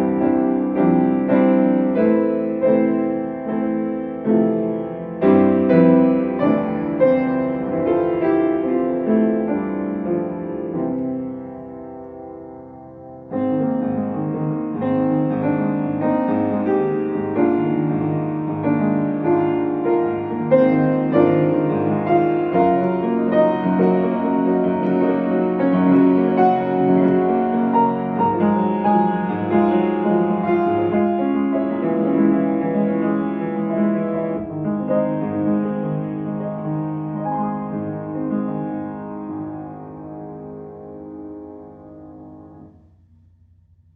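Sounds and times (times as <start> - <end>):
solo piano: 0.0 - 43.9.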